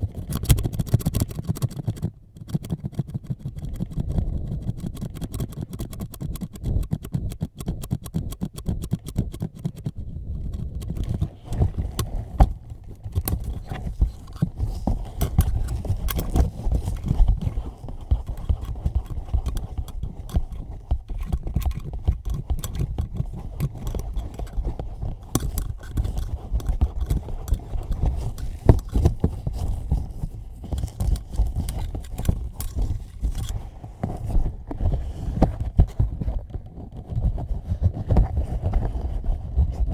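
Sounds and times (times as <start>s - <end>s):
tapping and rubbing on microphone: 0.0s - 39.9s.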